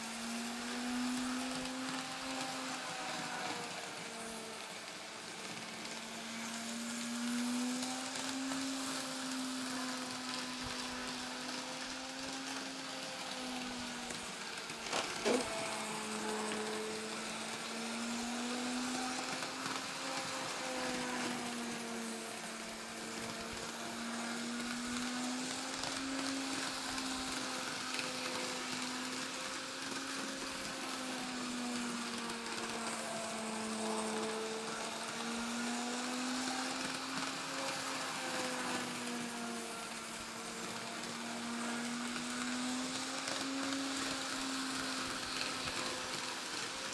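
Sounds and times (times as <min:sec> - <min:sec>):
model train motor whine: 0:00.0 - 0:46.9.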